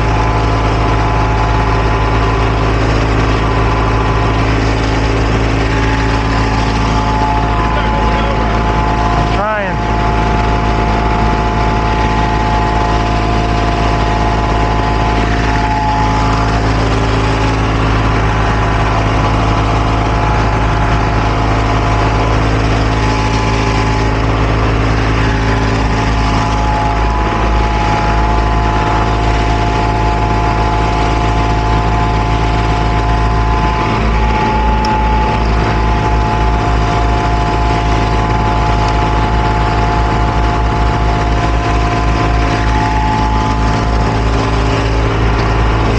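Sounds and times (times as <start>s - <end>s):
engine hum with whine: 0.0s - 45.9s.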